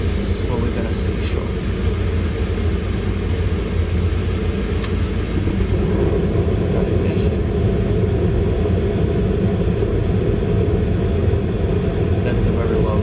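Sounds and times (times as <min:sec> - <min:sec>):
gas furnace rumble: 0:00.0 - 0:13.0.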